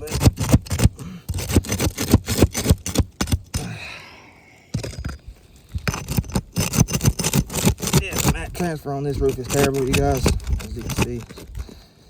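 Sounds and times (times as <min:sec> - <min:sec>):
tool scraping under shingles: 0:00.0 - 0:03.8, 0:04.7 - 0:12.0.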